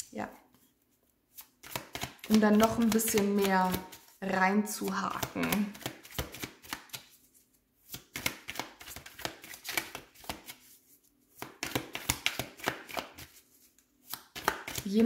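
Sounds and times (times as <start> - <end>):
cards being shuffled: 0.5 - 15.0.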